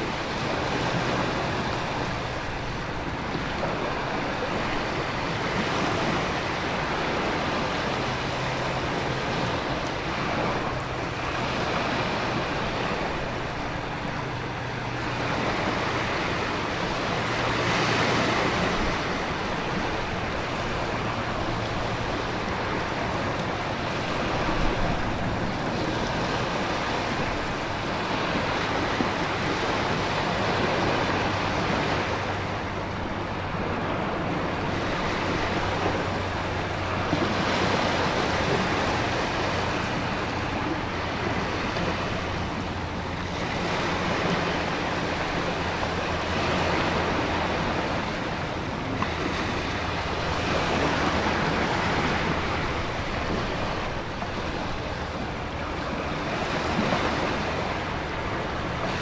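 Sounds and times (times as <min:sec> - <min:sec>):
ocean waves breaking: 0:00.0 - 0:59.0
wind: 0:00.0 - 0:59.0.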